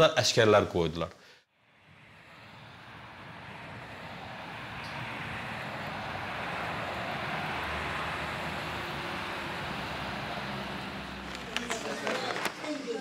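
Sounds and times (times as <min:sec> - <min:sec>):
cars driving past: 0:01.5 - 0:13.0.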